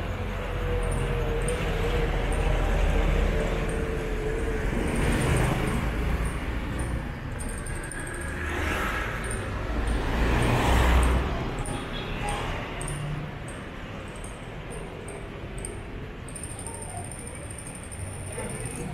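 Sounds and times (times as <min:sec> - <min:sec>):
low traffic rumble: 0:00.0 - 0:18.9
motorcycle engines running: 0:00.0 - 0:18.9
motorcycle tricycle passing: 0:00.0 - 0:18.9.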